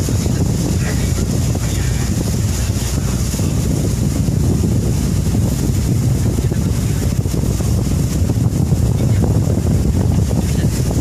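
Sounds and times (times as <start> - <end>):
boat engine droning: 0.0 - 11.0
wind on microphone: 0.0 - 11.0.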